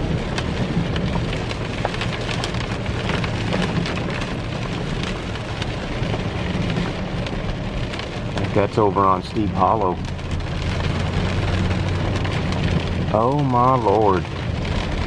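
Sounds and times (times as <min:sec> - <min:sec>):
low vehicle rumble: 0:00.0 - 0:15.0
rain drops ticking on car: 0:00.0 - 0:15.0
rain hiss: 0:00.0 - 0:15.0.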